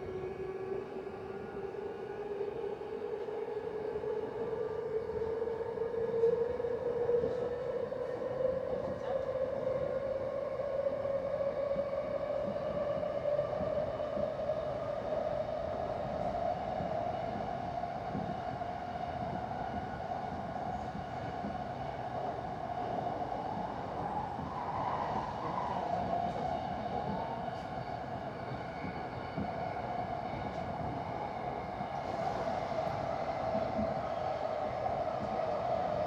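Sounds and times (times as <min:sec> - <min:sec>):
train rumbling inside carriage: 0:00.0 - 0:36.0
train whine: 0:00.0 - 0:36.0.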